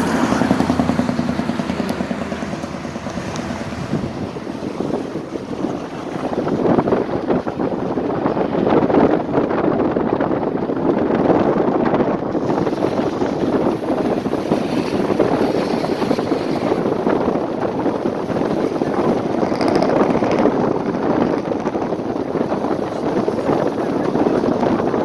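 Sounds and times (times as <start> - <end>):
moving vehicle running noise: 0.0 - 25.0
wind rushing over microphone: 0.0 - 25.0.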